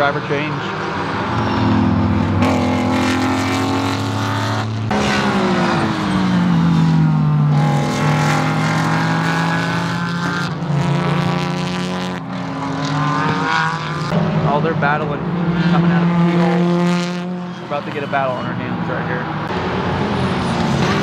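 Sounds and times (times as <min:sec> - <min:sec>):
race car engines passing: 0:00.0 - 0:21.0.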